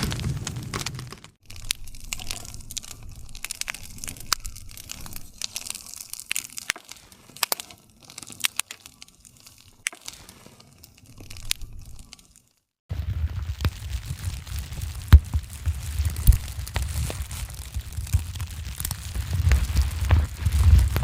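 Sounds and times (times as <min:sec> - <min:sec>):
low rumble of flame: 0:00.0 - 0:12.3, 0:12.9 - 0:21.0
campfire snapping and popping: 0:00.0 - 0:21.0.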